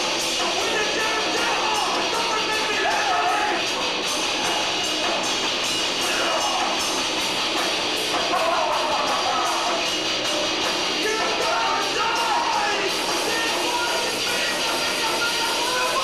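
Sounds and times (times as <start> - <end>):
distorted noise band playing: 0.0 - 16.0.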